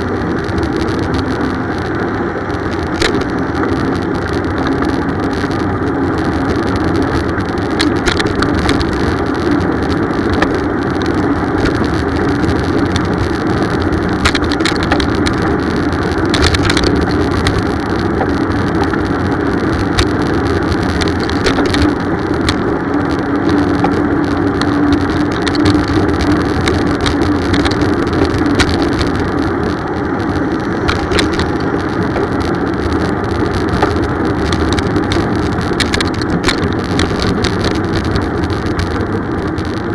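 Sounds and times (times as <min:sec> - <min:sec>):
bicycle clicks and rattles: 0:00.0 - 0:39.9
bicycle riding rumble: 0:00.0 - 0:39.9.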